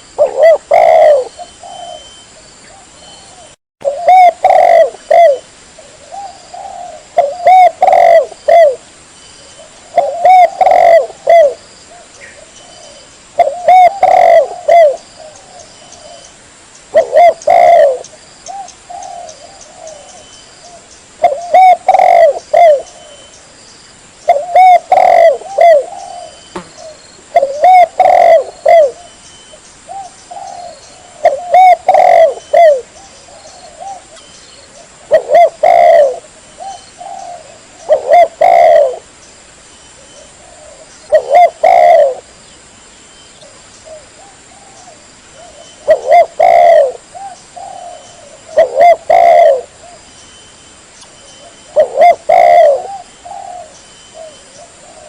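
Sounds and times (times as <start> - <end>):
dove cooing: 0.0 - 8.8, 9.4 - 16.3, 16.9 - 23.3, 24.3 - 29.2, 29.9 - 39.1, 40.0 - 42.3, 43.4 - 50.0, 51.4 - 55.0.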